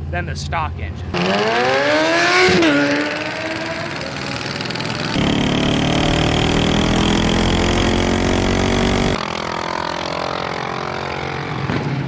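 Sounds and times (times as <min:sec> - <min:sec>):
mini bike engines revving high: 0:01.1 - 0:12.0.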